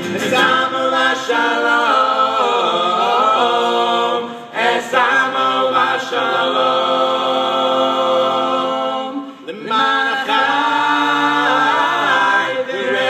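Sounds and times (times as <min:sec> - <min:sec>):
male vocal group singing in harmony: 0:00.0 - 0:13.0.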